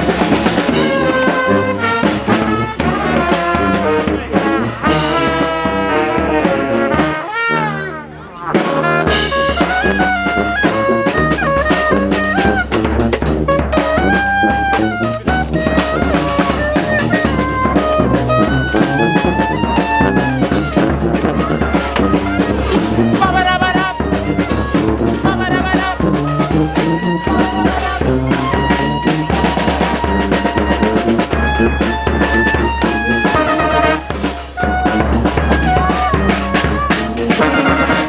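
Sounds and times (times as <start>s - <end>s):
bass drum: 0.0s - 7.3s, 8.5s - 38.0s
snare drum: 0.0s - 7.5s, 8.5s - 38.0s
brass band playing: 0.0s - 38.0s.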